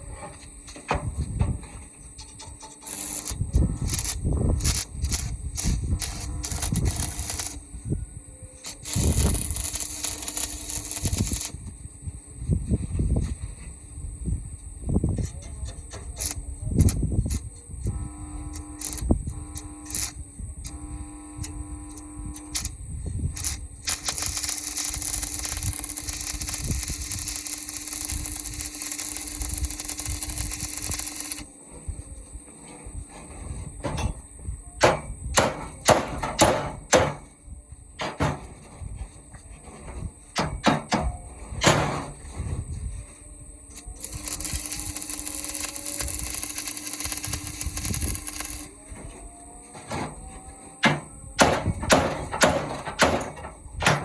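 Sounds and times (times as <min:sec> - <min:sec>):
arc welding crackling hiss: 0:00.3 - 0:32.4, 0:33.6 - 0:38.8, 0:40.0 - 0:54.0.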